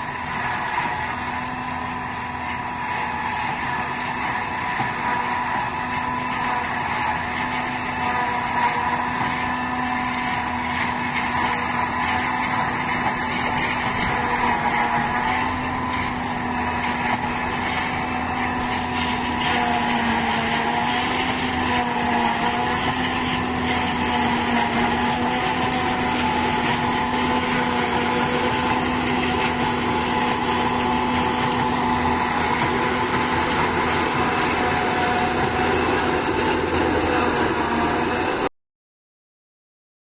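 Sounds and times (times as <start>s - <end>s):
harvester engine running: 0.0s - 38.5s
machine working noise: 0.0s - 38.5s.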